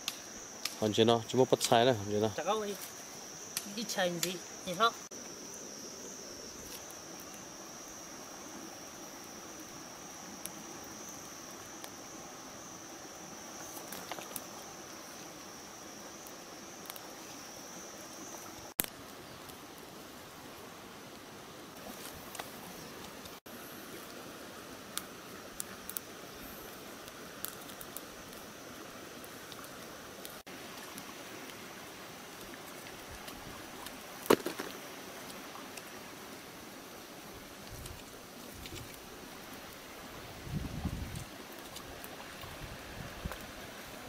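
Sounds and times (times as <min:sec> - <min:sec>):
insect buzzing call: 0:00.0 - 0:37.2.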